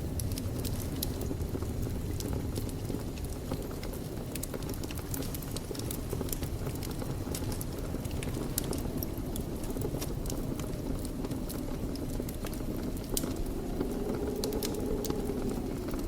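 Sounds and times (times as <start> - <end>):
fire crackling and popping: 0.0 - 16.0
fire rumbling: 0.0 - 16.0.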